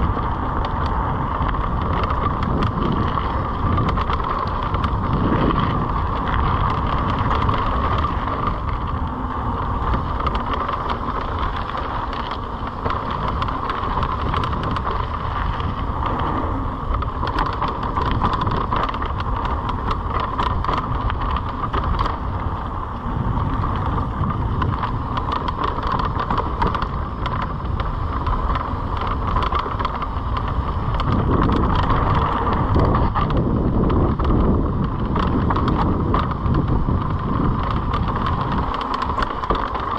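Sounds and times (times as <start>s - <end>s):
bike rattles and clicks: 0.0s - 39.9s
tyres rolling over dirt: 0.0s - 39.9s
wind buffeting microphone: 0.0s - 39.9s.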